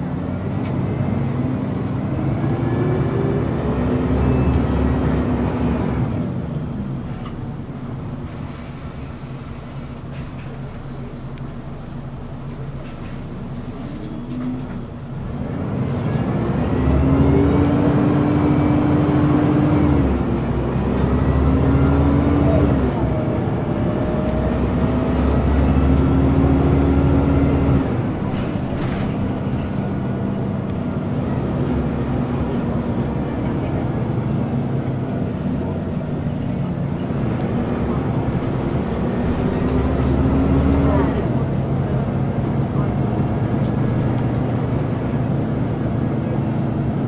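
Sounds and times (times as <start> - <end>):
bus engine pulling away: 0.0 - 47.0.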